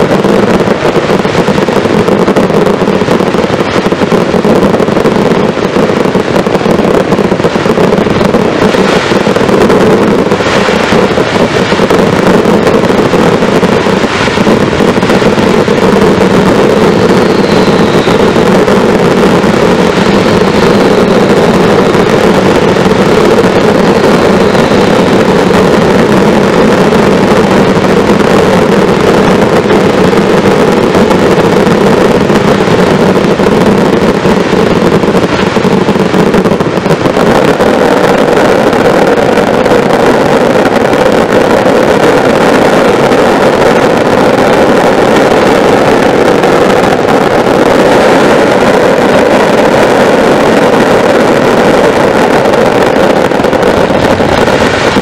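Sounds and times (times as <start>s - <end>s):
roar of fireworks sparks: 0.0s - 55.0s.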